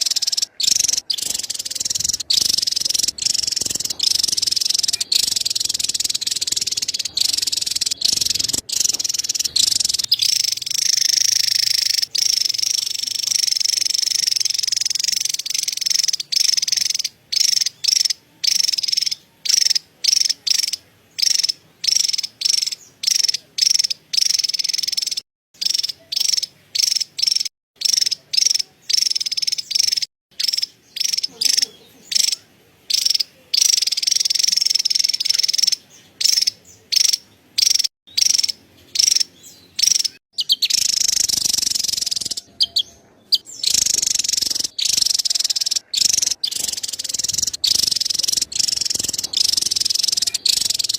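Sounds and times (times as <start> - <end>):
bird chattering call: 0.0 - 50.9.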